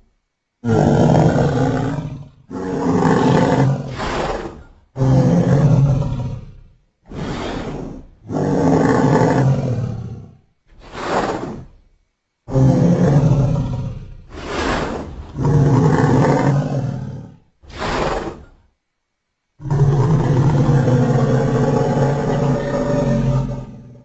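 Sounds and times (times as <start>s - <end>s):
deep dinosaur roaring calls: 0.6s - 11.8s, 12.5s - 18.6s, 19.6s - 24.0s.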